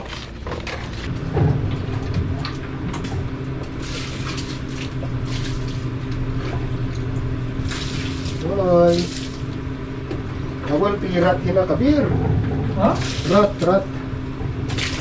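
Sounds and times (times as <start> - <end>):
concrete mixer engine humming: 0.0 - 15.0.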